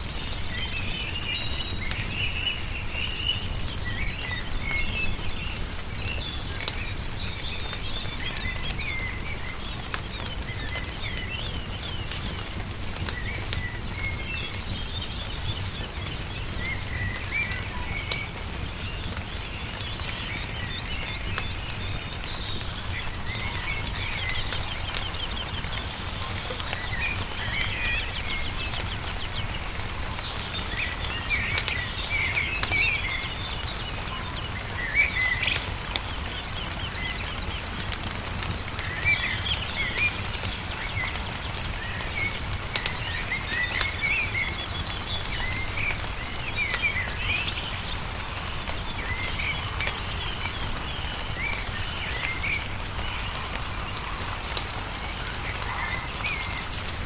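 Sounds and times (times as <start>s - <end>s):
songbirds chirping and warbling: 0.0s - 57.0s
wood fire crackling: 0.0s - 57.0s.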